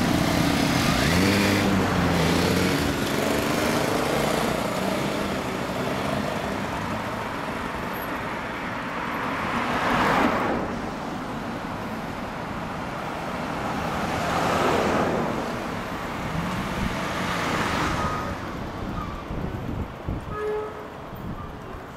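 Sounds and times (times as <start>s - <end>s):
cars passing by: 0.0s - 21.9s.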